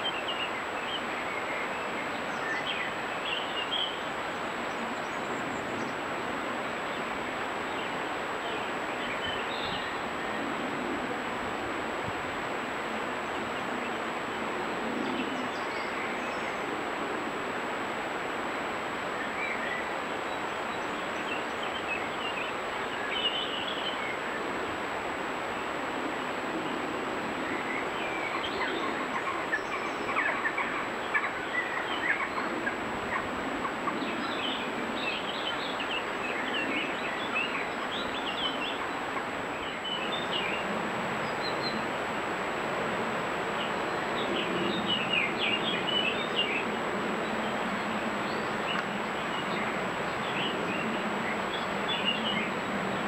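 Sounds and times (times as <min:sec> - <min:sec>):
small birds chirping and singing: 0:00.0 - 0:10.6, 0:13.2 - 0:16.8, 0:19.1 - 0:24.5, 0:25.5 - 0:42.2, 0:43.3 - 0:53.0
steady hiss: 0:00.0 - 0:53.0.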